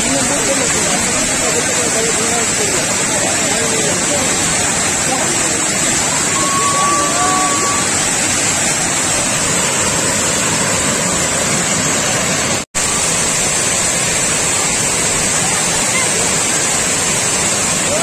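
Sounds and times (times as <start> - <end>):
water rushing over a dam: 0.0 - 18.0.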